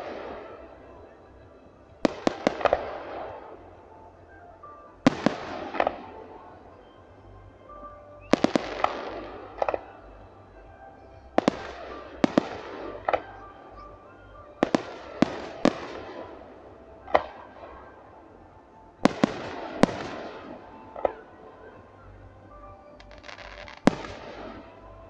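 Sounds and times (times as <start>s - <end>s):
crackling hiss of burning stars: 0.0s - 25.0s.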